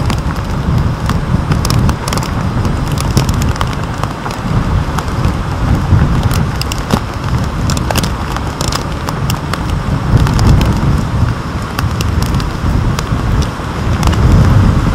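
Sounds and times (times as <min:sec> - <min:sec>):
rain: 0:00.0 - 0:14.9
raindrops ticking on camera housing: 0:00.0 - 0:14.9
wind gusting against microphone: 0:00.0 - 0:14.9.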